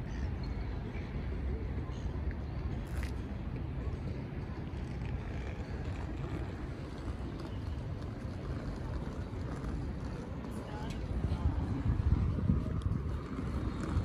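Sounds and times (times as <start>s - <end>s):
low rumble of street ambience: 0.0s - 14.0s.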